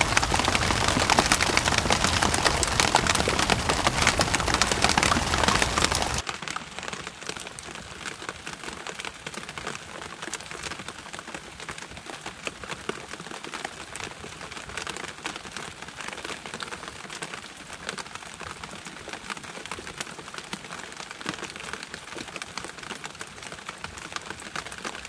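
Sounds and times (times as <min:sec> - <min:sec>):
raindrops ticking on surface: 0:00.0 - 0:25.0
steady rain falling: 0:00.0 - 0:25.0.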